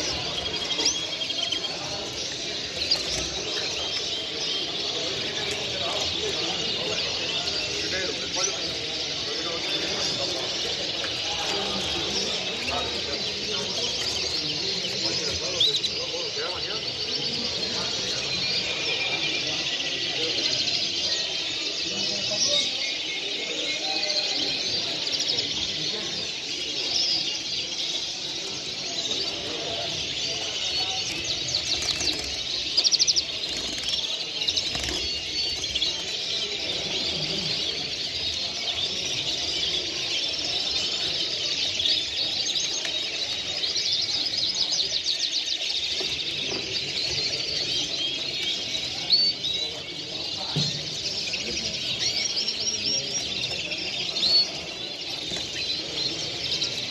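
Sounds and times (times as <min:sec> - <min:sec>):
murmur of voices: 0:00.0 - 0:56.9
songbirds chirping and singing: 0:00.0 - 0:56.9.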